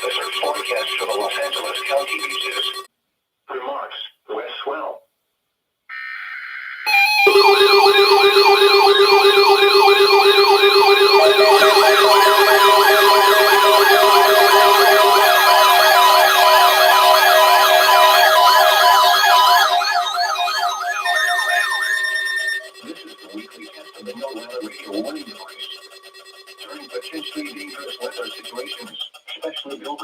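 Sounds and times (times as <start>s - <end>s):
electronic sirens wailing: 0.0s - 2.9s, 6.8s - 29.0s
steady and pulsing beeps: 0.0s - 2.9s, 6.9s - 30.0s.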